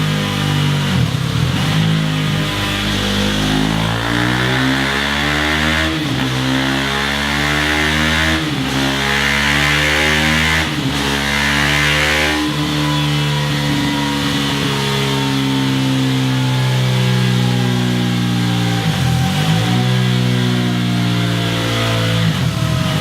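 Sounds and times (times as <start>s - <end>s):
motorcycle engine at steady revs: 0.0s - 23.0s.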